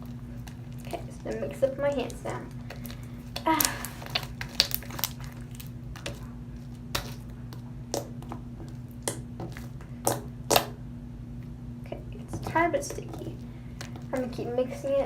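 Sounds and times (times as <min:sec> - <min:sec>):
slime squishing by hand: 0:00.0 - 0:11.6, 0:12.2 - 0:15.0.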